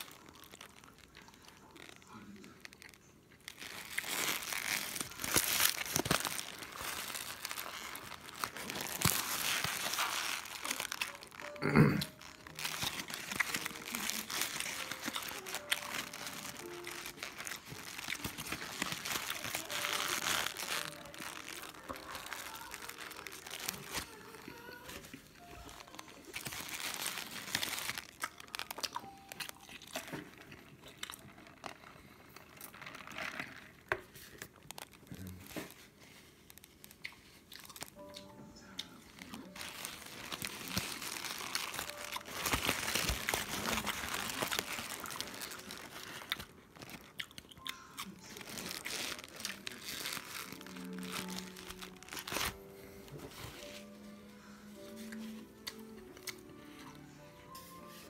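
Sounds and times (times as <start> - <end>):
paper wrapper crinkling: 0.0 - 58.0.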